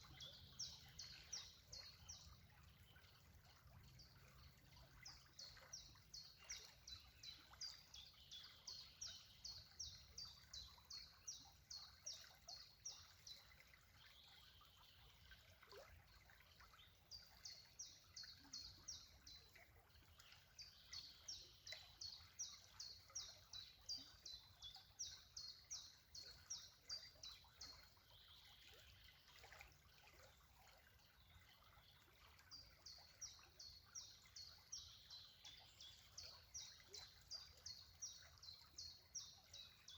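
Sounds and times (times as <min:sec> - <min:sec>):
faint outdoor background: 0:00.0 - 0:39.9.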